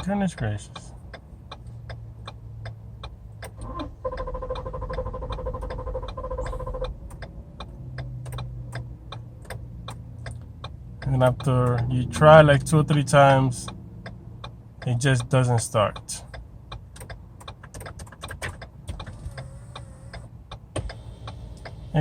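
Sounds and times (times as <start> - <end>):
car engine cranking: 0.0 - 22.0.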